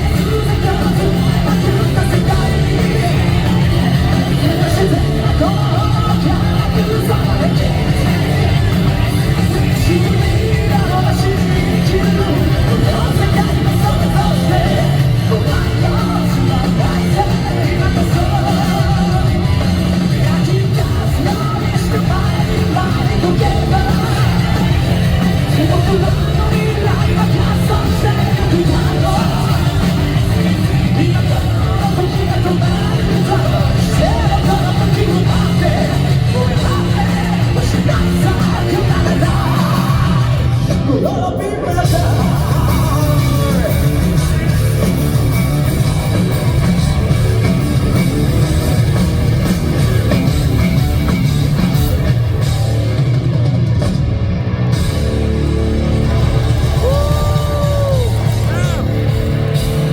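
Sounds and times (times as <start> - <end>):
man singing lead vocal: 0.0 - 47.2, 56.6 - 59.9
distorted electric guitars: 0.0 - 59.9
rock band playing loud: 0.0 - 59.9.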